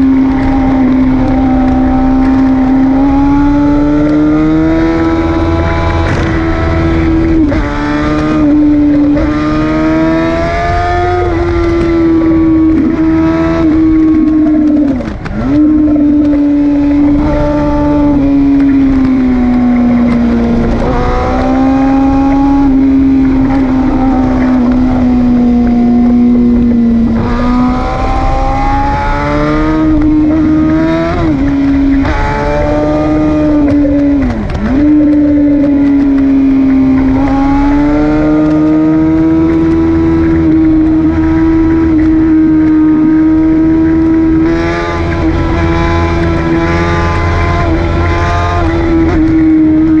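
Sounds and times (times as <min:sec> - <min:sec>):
motorcycle engine revving high: 0:00.0 - 0:50.0
wind rushing over microphone: 0:00.0 - 0:50.0.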